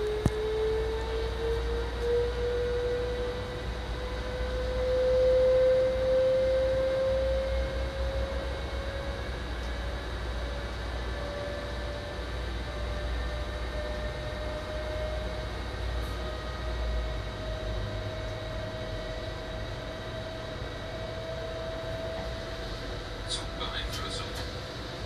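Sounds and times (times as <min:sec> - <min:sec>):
electric train drive whining: 0:00.0 - 0:25.0
low train running rumble: 0:00.0 - 0:25.0.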